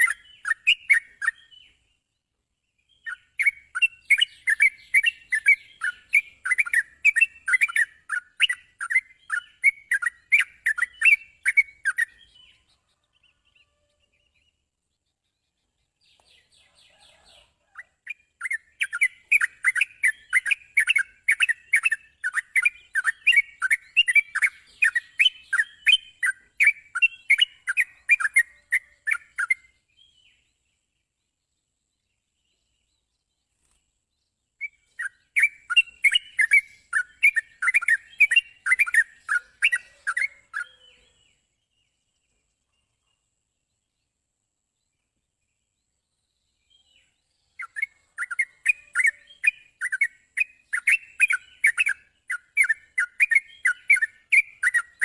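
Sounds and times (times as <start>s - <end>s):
bird singing repeated notes: 0.0s - 16.7s, 17.8s - 31.6s, 32.2s - 43.2s, 45.0s - 55.0s.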